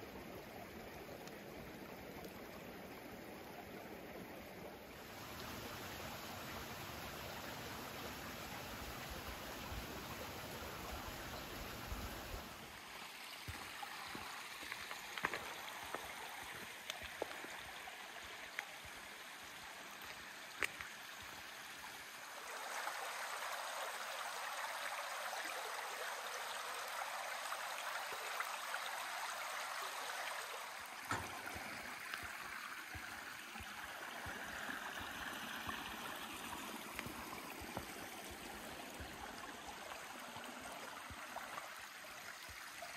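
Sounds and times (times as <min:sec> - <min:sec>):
brook babbling over stones: 0:00.0 - 0:42.9.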